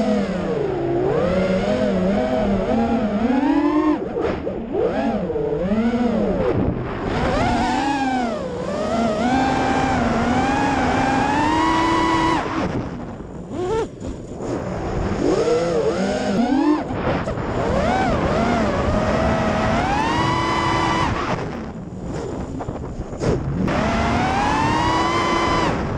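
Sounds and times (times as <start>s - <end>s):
drone motors whining: 0.0s - 25.9s.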